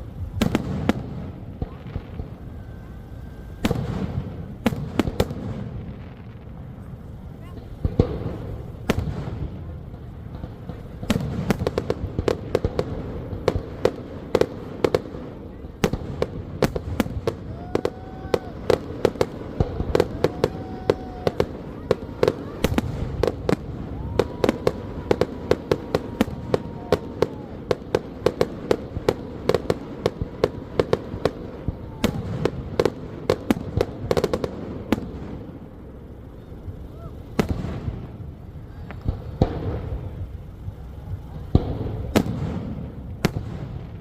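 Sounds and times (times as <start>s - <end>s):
fireworks bangs and cracks: 0.0s - 44.0s
low rumble of bursts: 0.0s - 44.0s.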